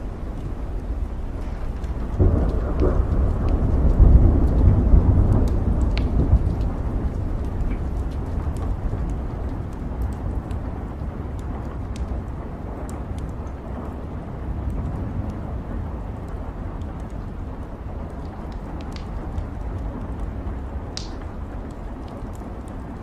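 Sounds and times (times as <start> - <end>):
steady rain: 0.0 - 23.0
thunder rumbling: 0.0 - 23.0.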